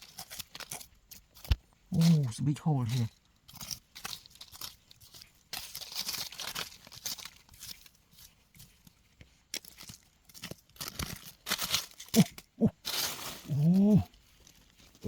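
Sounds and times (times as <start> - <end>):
soil being dug and scraped: 0.0 - 15.0.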